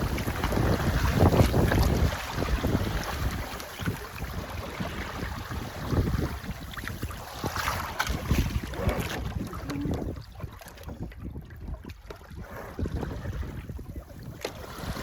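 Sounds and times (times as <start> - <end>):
water splashing and rushing: 0.0 - 15.0
wind gusting over microphone: 0.0 - 15.0.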